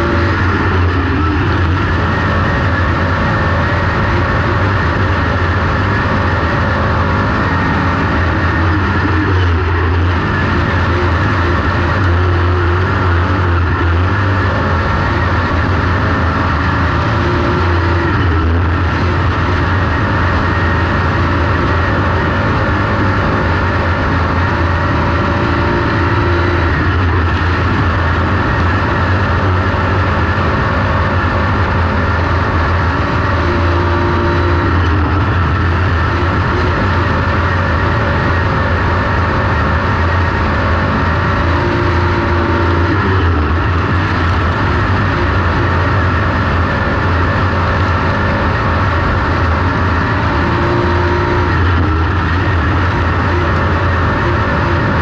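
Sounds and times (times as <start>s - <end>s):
race car engine droning: 0.0s - 55.0s.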